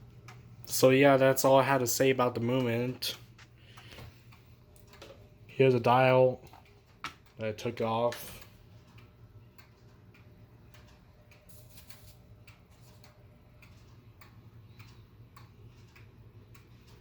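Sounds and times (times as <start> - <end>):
wall clock ticking: 0.0 - 11.5, 12.2 - 17.0.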